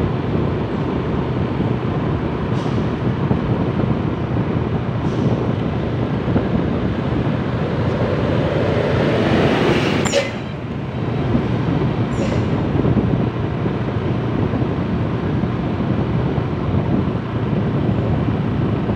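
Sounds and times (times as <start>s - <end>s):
truck passing by: 0.0s - 18.9s
vehicle engine and road noise: 0.0s - 18.9s.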